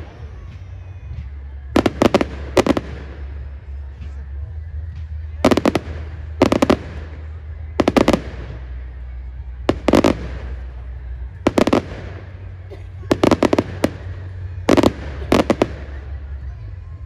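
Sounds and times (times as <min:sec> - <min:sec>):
fireworks bursting: 0:00.0 - 0:04.4, 0:05.0 - 0:16.8.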